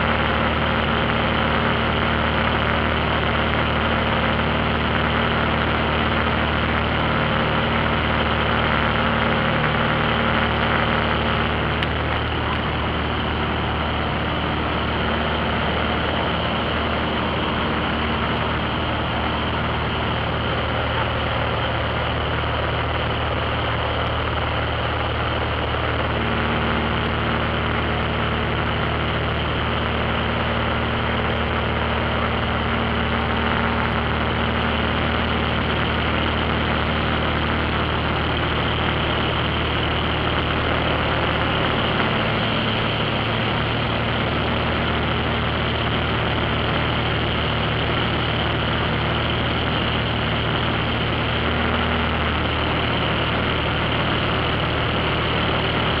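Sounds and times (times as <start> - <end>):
airplane engine and propeller drone: 0.0 - 56.0.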